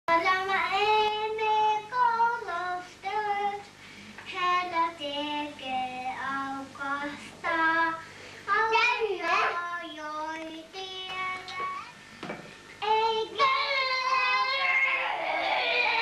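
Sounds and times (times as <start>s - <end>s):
young child singing: 0.1s - 12.0s, 12.8s - 16.0s.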